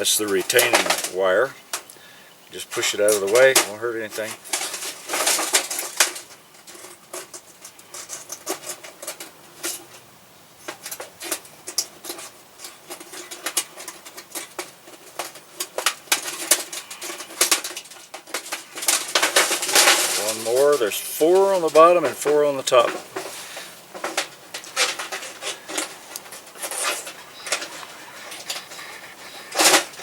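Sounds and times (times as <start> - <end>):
sheet metal clicking and rattling: 0.0 - 1.9, 2.8 - 10.0, 10.7 - 30.0.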